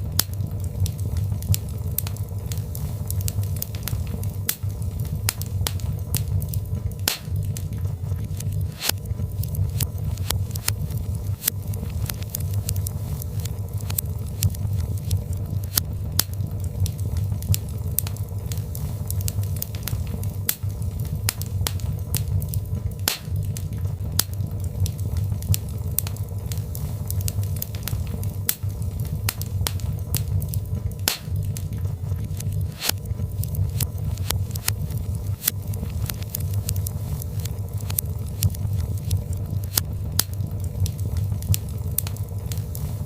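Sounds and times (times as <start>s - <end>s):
fire crackling and popping: 0.0s - 43.0s
low rumble: 0.0s - 43.0s.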